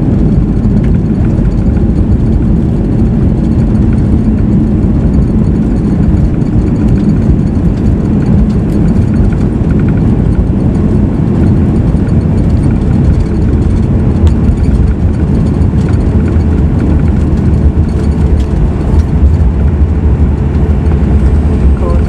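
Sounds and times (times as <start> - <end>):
airplane engines and airframe rumble: 0.0 - 22.0.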